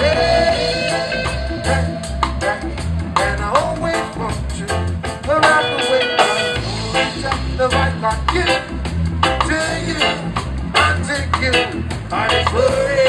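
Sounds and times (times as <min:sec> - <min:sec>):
heavy repeating bass line: 0:00.0 - 0:13.0
live reggae band playing: 0:00.0 - 0:13.0.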